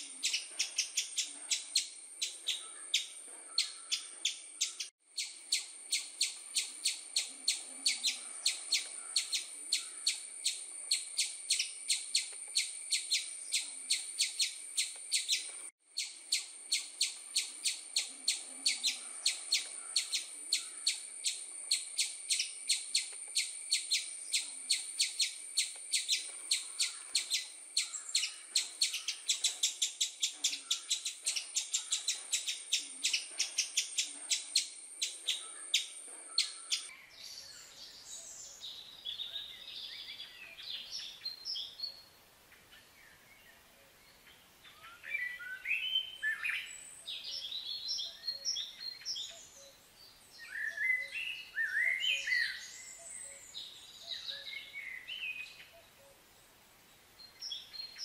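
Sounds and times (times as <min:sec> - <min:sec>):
songbirds chirping rapidly: 0:00.0 - 0:58.0.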